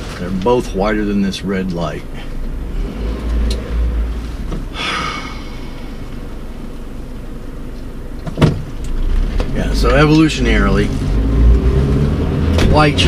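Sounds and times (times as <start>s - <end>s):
car idling: 0.0s - 13.0s.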